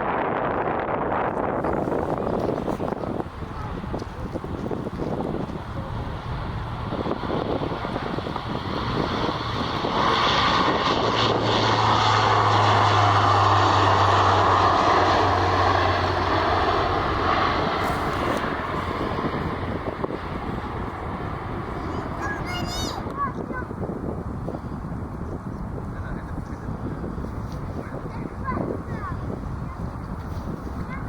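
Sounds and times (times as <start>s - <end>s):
airliner engine passing: 0.0s - 25.3s.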